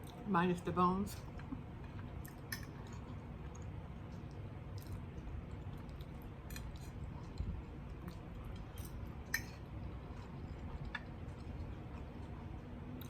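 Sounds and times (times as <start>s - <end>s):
person chewing food: 1.4s - 13.0s.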